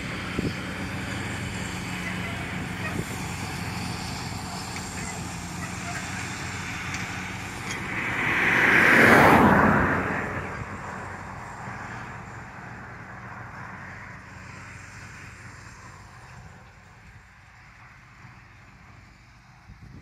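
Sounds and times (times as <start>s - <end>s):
tractor engine driving past: 0.0s - 20.0s.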